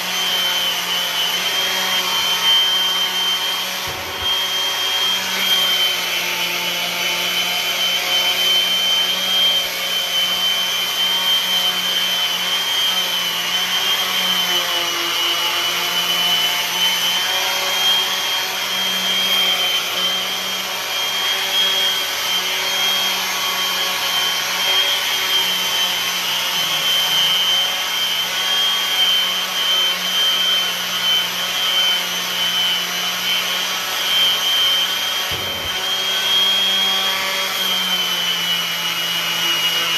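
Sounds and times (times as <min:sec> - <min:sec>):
orbital sander whining on wood: 0:00.0 - 0:39.9.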